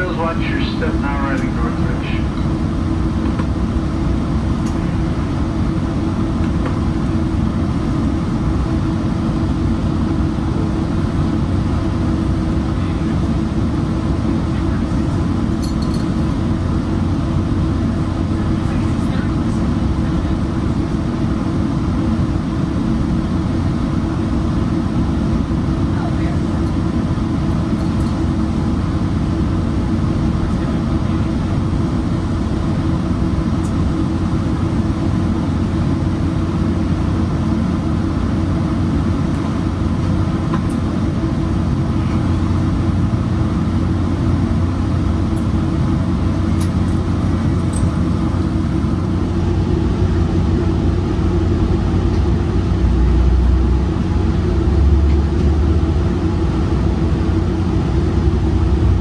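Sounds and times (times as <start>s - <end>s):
train rumble and hum: 0.0s - 59.0s.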